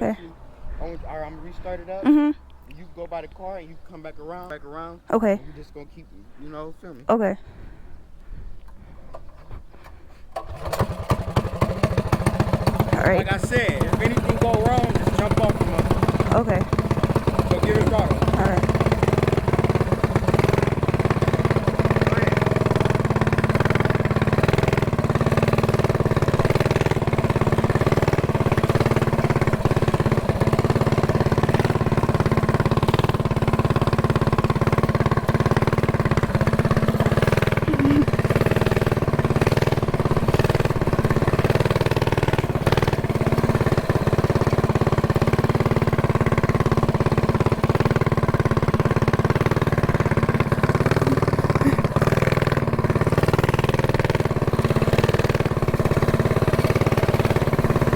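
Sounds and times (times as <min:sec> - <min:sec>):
small engine running steadily: 0:00.0 - 0:57.9.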